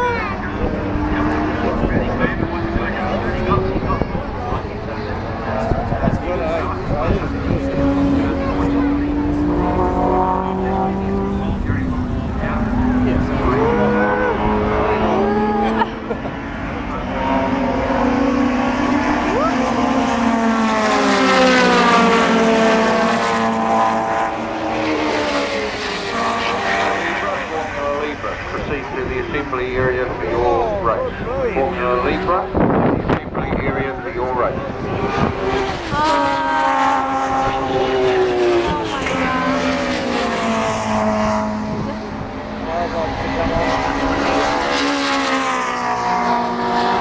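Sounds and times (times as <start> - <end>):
racing car engines passing: 0.0 - 47.0.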